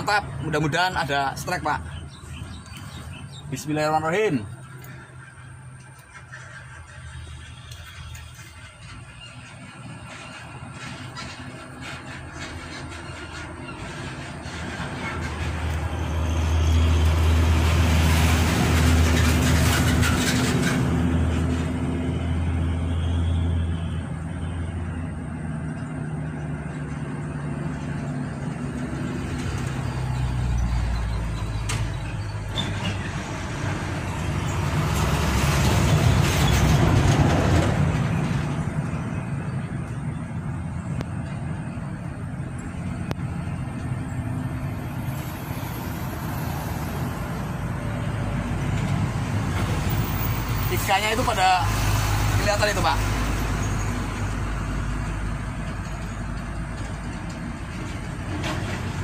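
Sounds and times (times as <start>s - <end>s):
vehicle passing: 0.0s - 56.1s.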